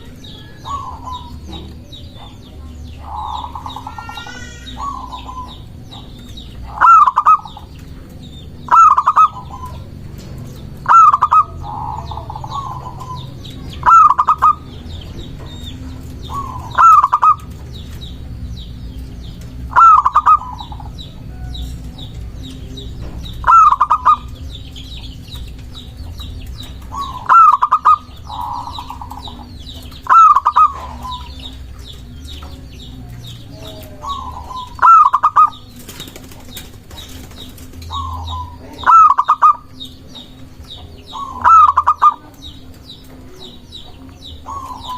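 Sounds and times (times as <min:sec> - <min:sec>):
dove cooing: 0:00.0 - 0:44.9
small birds chirping: 0:00.0 - 0:44.9.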